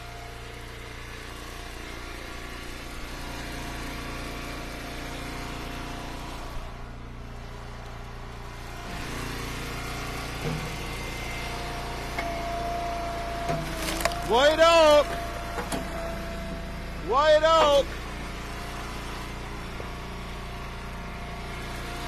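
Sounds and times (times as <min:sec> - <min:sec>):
wood splitter engine running: 0:00.0 - 0:22.0.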